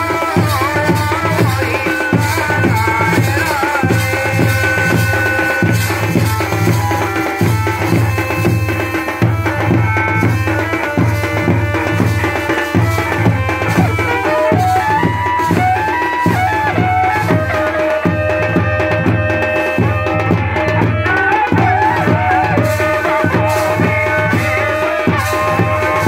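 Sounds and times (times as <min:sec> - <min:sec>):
drums beating steady rhythm: 0:00.0 - 0:26.0
wind instrument melody: 0:00.0 - 0:26.0.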